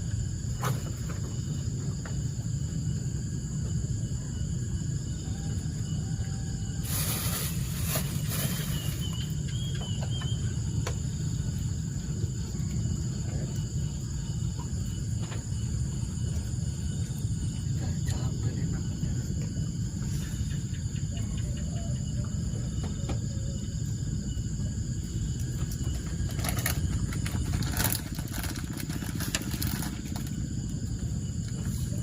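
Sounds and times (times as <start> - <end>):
continuous low rumble: 0.0 - 32.0
high insect chirring: 0.0 - 32.0.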